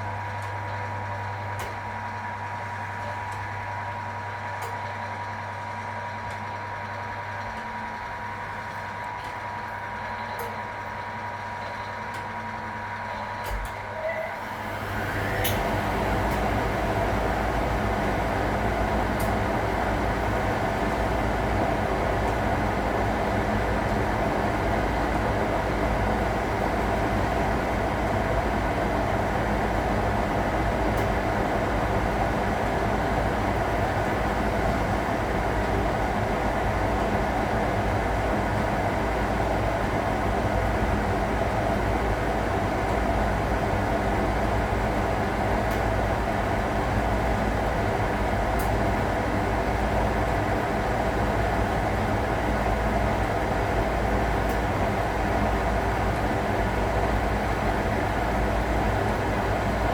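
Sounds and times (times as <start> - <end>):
washing machine humming: 0.0 - 59.9.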